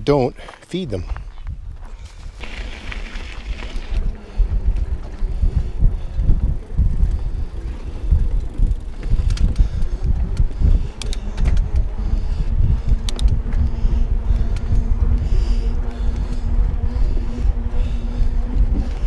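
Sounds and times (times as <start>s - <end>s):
bike tyres on gravel: 0.1s - 19.0s
wind buffeting microphone: 0.9s - 19.0s
bike clicks: 2.1s - 19.0s.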